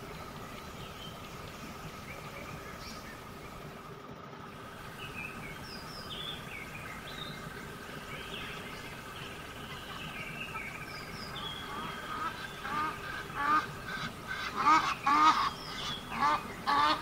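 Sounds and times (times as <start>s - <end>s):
birds chirping: 0.0s - 17.0s
steady background hum: 0.0s - 17.0s.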